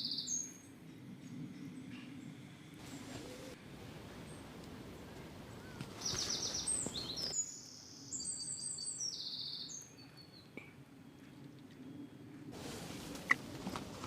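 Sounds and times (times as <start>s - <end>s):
songbird singing: 0.0s - 12.5s.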